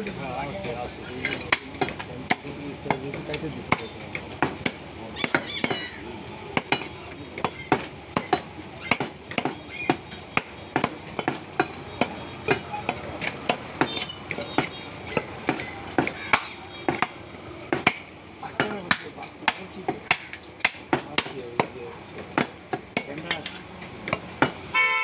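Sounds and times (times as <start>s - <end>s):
cleaver chopping meat on wood: 1.4s - 24.7s.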